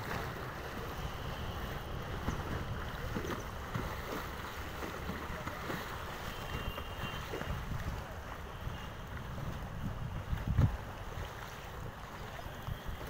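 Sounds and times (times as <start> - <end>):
water rushing past boat hull: 0.0 - 13.0
wind buffeting microphone: 0.0 - 13.0.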